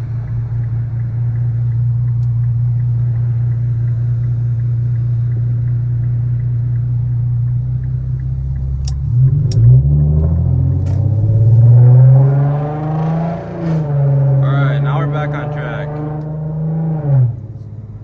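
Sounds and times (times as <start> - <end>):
car engine droning through loud exhaust: 0.0 - 18.0.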